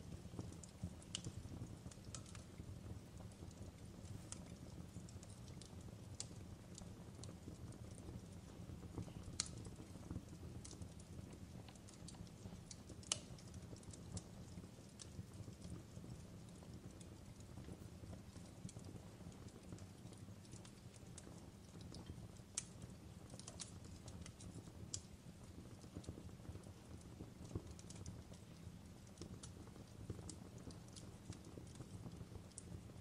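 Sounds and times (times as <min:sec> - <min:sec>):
fire low rumble: 0:00.0 - 0:33.0
fire snaps and pops: 0:00.0 - 0:33.0.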